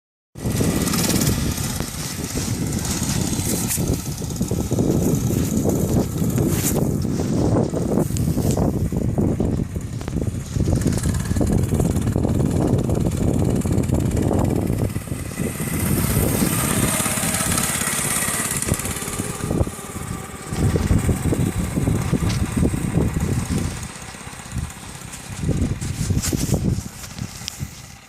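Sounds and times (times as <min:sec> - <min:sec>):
motorcycle engine running: 0:00.4 - 0:28.0
wind noise on microphone: 0:00.4 - 0:28.0.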